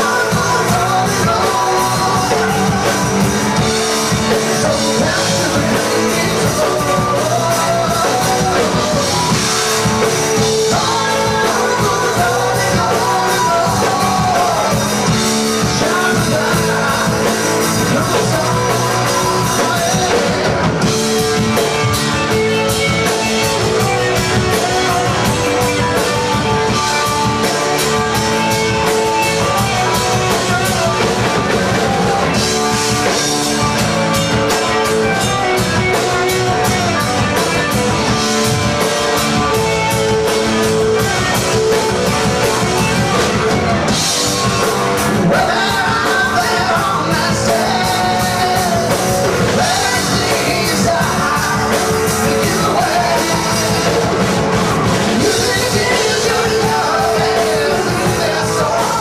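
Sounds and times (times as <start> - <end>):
rock music with drums and guitar: 0.0 - 59.0.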